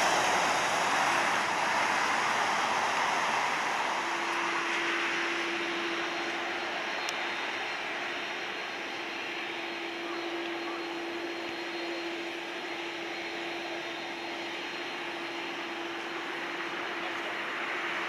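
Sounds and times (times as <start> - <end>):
distant jet engines humming: 0.0 - 18.0.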